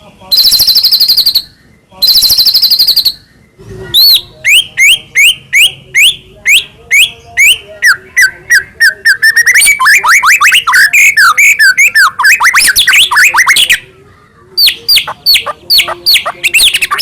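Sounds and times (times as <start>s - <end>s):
bird rapid high trill: 0.3s - 3.3s, 4.0s - 13.8s, 14.6s - 17.0s.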